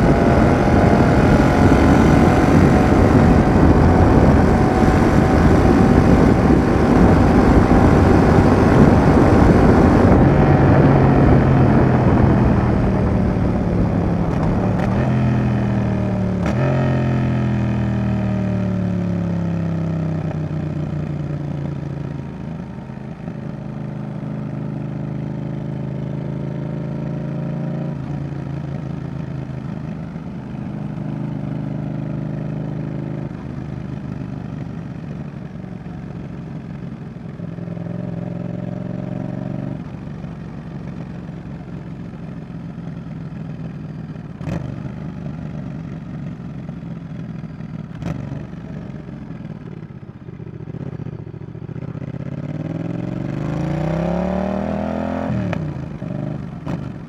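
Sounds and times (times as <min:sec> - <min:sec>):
motorcycle engine riding: 0:00.0 - 0:57.0.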